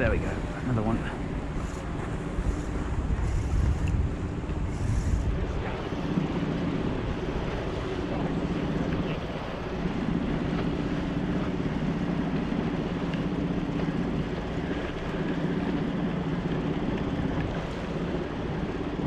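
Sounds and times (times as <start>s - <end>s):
outboard engine drone: 0.0s - 19.0s
wind buffeting microphone: 0.0s - 19.0s.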